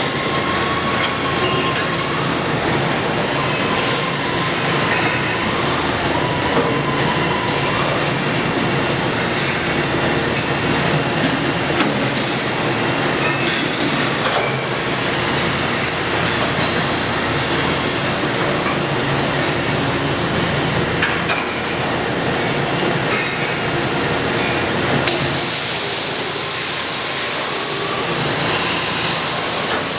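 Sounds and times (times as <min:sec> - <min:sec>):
industrial machinery humming: 0:00.0 - 0:29.9.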